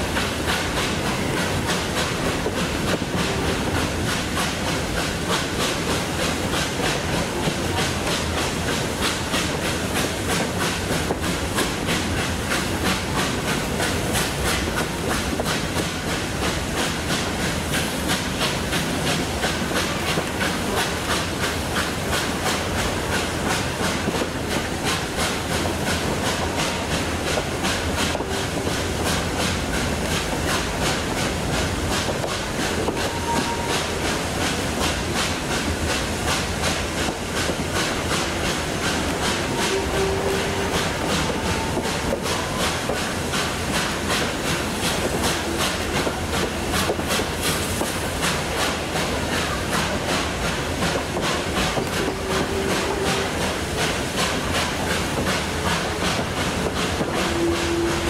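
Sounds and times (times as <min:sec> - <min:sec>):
steam hissing: 0:00.0 - 0:58.0
train wheels clacking on rails: 0:00.0 - 0:58.0.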